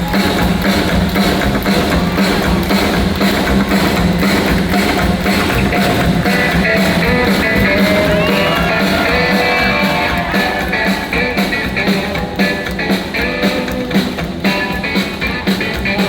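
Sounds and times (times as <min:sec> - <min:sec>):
bass and drum beat: 0:00.0 - 0:16.0
electric guitar lead: 0:00.0 - 0:16.0.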